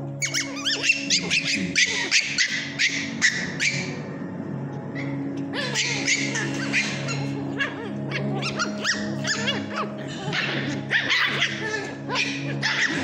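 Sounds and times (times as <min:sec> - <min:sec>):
puppies yipping and barking: 0:00.0 - 0:04.2, 0:04.9 - 0:13.0
background music: 0:00.0 - 0:13.0.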